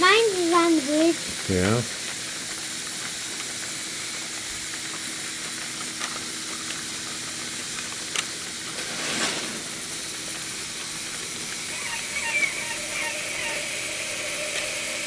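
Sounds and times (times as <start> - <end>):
toy train clicks on track: 0.0 - 9.2, 10.3 - 15.0
toy train motor hum: 0.0 - 15.0.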